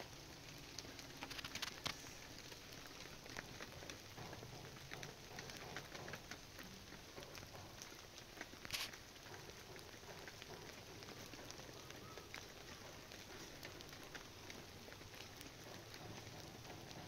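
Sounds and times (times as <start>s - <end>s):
drops ticking on a surface: 0.0s - 17.0s
faint steady rain: 0.0s - 17.0s.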